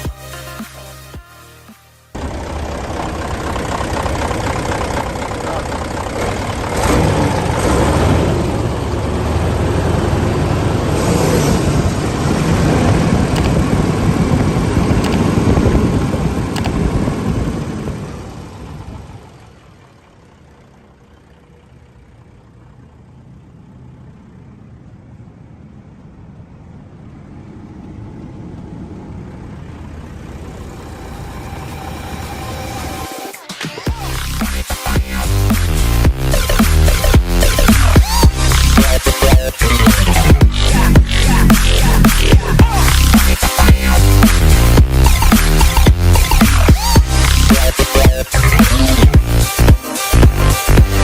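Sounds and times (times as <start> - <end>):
diesel truck engine running: 2.2 - 51.0.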